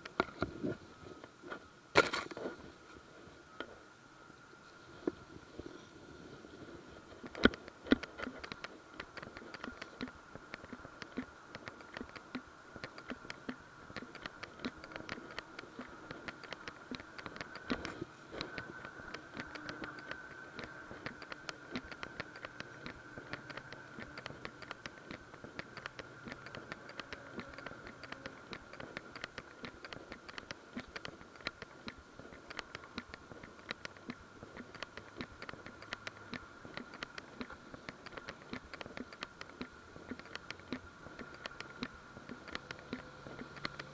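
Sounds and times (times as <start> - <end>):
faint high whine: 0.0 - 43.9.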